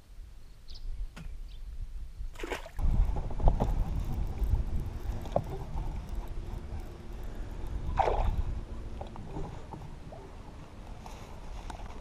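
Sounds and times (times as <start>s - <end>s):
wind buffeting microphone: 0.8s - 12.0s
water lapping against boat hull: 2.3s - 12.0s.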